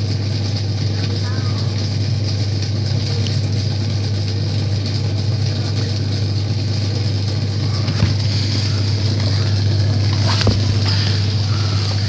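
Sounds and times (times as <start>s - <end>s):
compressor humming: 0.0s - 12.0s.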